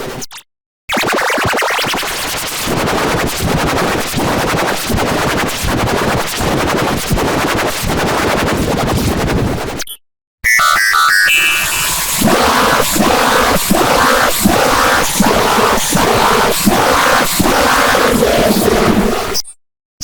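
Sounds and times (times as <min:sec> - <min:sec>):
stuttering distorted electronic music: 0:00.9 - 0:08.7, 0:10.5 - 0:19.4.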